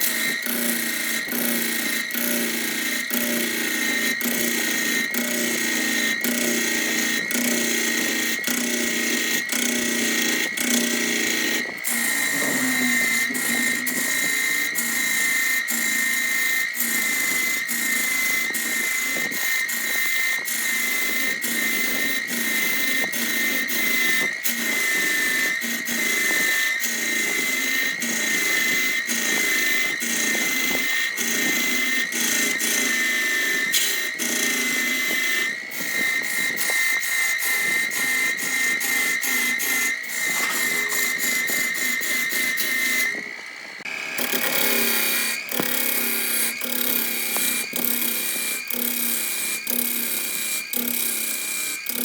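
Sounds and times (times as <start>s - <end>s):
power tool whining and ticking: 0.0s - 52.0s.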